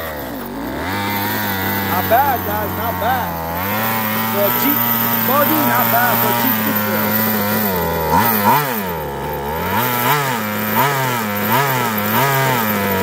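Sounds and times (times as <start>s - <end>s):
small petrol engine revving: 0.0s - 13.0s.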